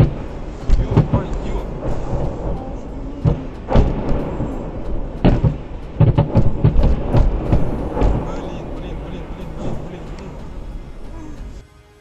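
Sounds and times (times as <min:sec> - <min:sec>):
rumbling background: 0:00.0 - 0:12.0.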